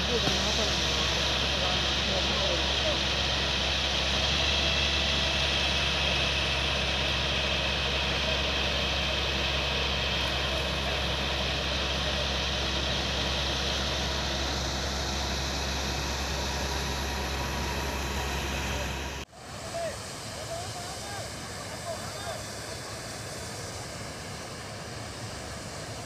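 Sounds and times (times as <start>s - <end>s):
engine running: 0.0s - 26.0s
fire hoses spraying water: 0.0s - 26.0s.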